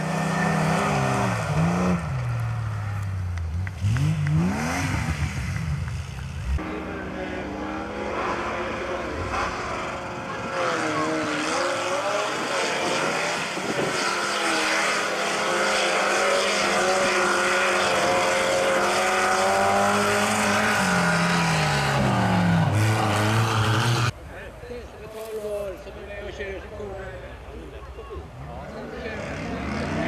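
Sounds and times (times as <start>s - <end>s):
racing engine at full throttle: 0.0s - 24.2s, 28.6s - 30.0s.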